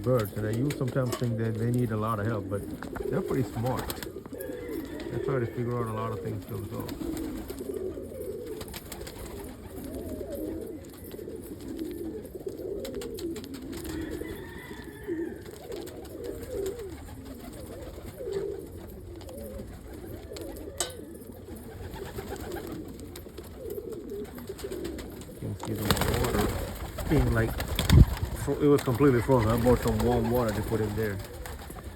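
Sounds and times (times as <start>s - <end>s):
pigeons cooing: 0.0s - 31.9s.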